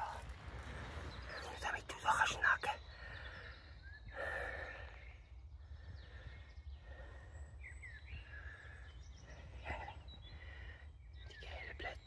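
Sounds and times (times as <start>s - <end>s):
faint bird chirps: 0.0s - 12.0s
low rumble of wind: 0.0s - 12.0s.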